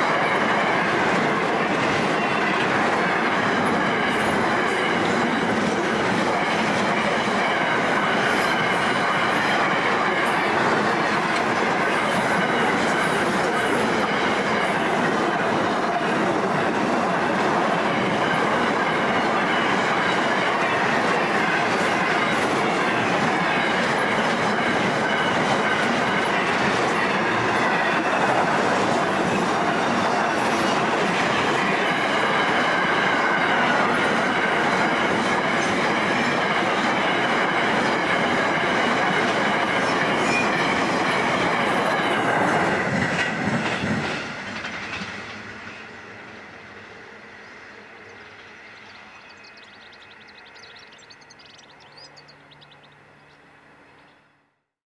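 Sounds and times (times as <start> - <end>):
train wheels clattering on rails: 0.0 - 52.7.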